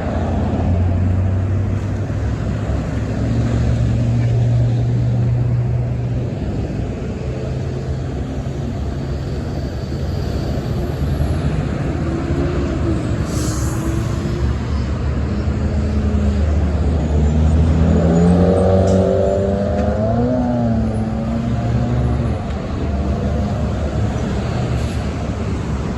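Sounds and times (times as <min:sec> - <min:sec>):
road noise: 0:00.0 - 0:25.9.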